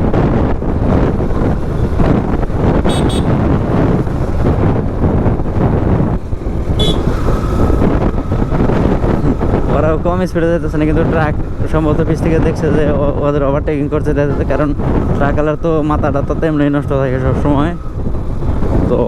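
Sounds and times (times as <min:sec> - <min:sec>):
motorcycle engine and road noise: 0:00.0 - 0:19.0
wind buffeting microphone: 0:00.0 - 0:19.0.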